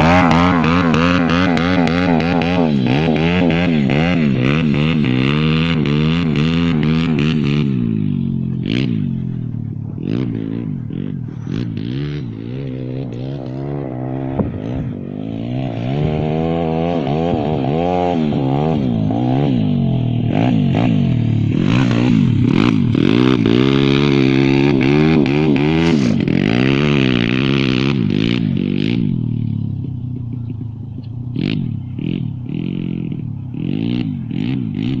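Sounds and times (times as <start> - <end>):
motorbike engine revving: 0.0 - 35.0.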